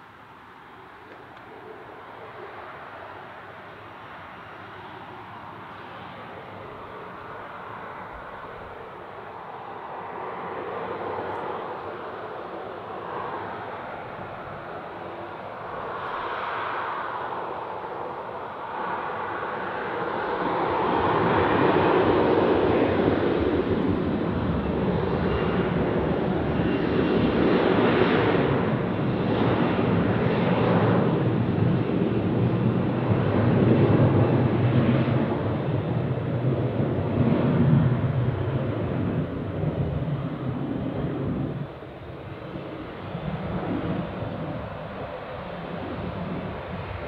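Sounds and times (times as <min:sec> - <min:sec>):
jet engines at takeoff: 0:00.0 - 0:47.0.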